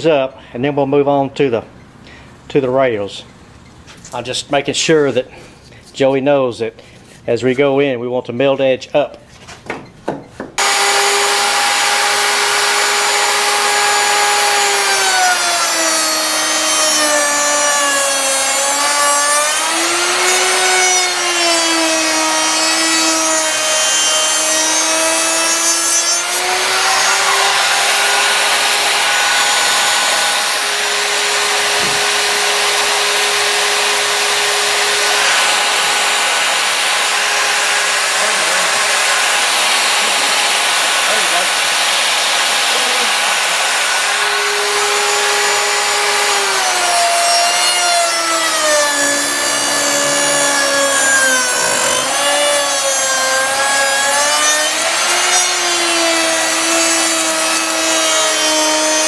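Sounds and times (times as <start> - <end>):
router motor running: 10.6 - 59.0.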